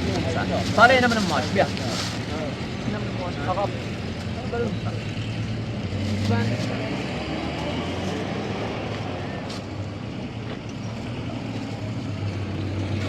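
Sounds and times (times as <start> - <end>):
street traffic noise: 0.0 - 13.0
vehicle engine running: 0.0 - 13.0.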